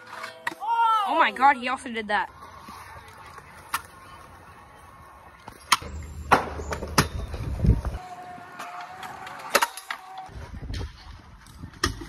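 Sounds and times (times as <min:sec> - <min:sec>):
scooter wheels rumbling on concrete: 0:02.2 - 0:12.0.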